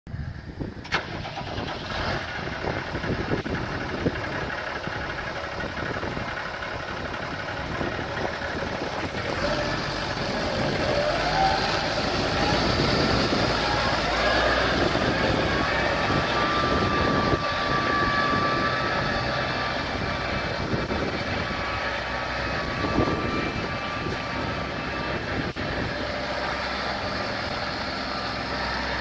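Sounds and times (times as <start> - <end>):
tractor diesel engine running: 0.1 - 29.0.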